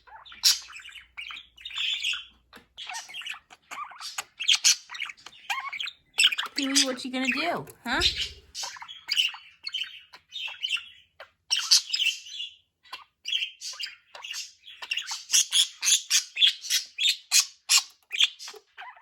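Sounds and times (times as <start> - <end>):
budgerigar chirping and chattering: 0.0 - 19.0.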